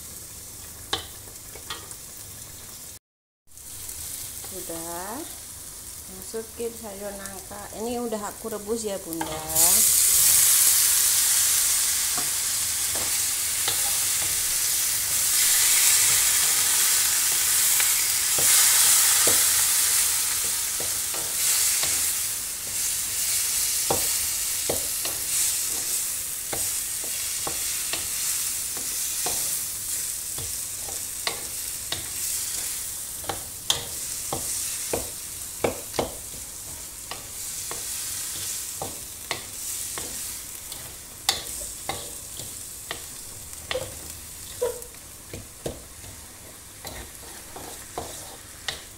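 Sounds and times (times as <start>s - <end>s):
food sizzling in hot oil: 0.0s - 48.9s
spatula scraping a wok: 9.2s - 48.9s.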